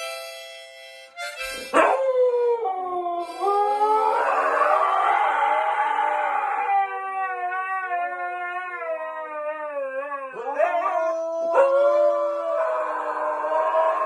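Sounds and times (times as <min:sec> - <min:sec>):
huskies howling: 0:01.8 - 0:14.0.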